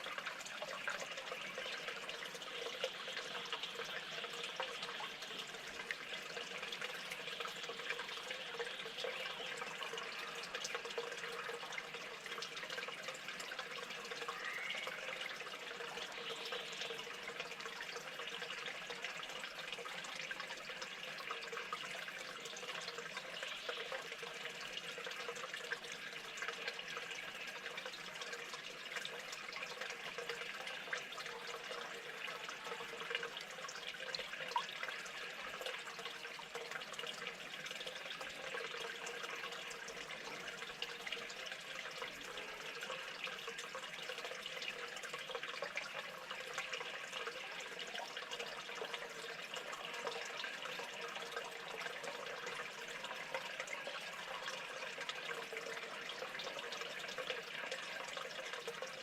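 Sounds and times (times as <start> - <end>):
running water trickling: 0.0 - 59.0
water drips and splashes: 0.0 - 59.0.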